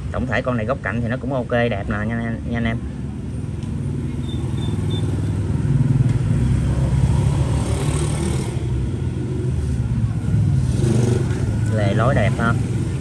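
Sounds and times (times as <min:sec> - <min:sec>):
motorbikes passing: 0:00.0 - 0:13.0.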